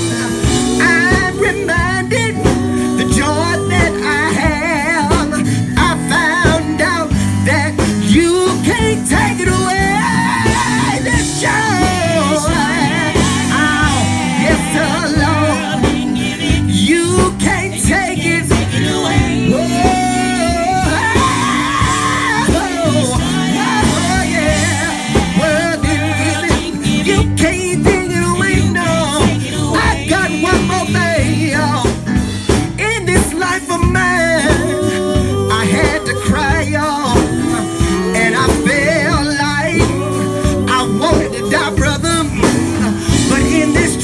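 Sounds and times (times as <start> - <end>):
gospel band playing: 0.0 - 44.0
lead singer singing: 0.0 - 44.0.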